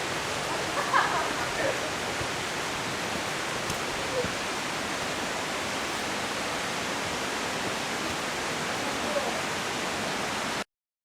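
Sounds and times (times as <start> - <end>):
flowing water rushing: 0.0 - 10.6.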